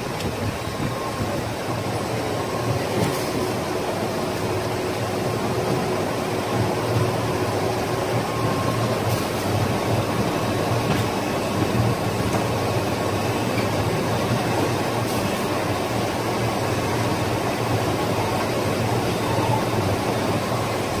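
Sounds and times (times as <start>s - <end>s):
machine hum with high whine: 0.0s - 21.0s.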